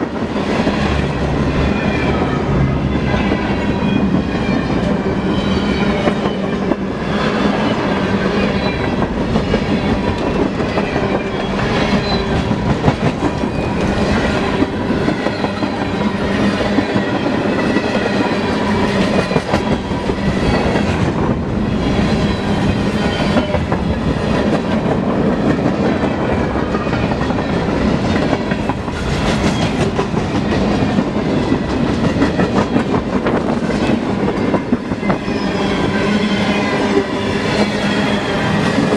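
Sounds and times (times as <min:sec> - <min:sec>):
freight train cars rolling past: 0:00.0 - 0:38.9
steel wheels clacking over rail joints: 0:02.0 - 0:38.9.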